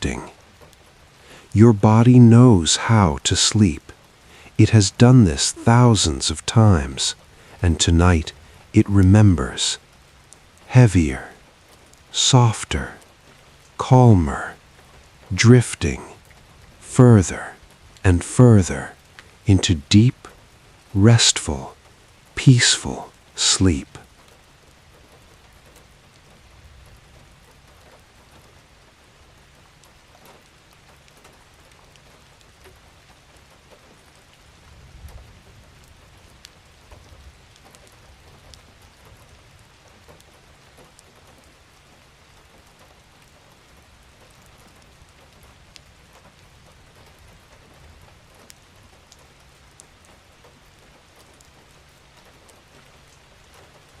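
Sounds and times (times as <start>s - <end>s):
light rainfall: 0.0s - 54.0s.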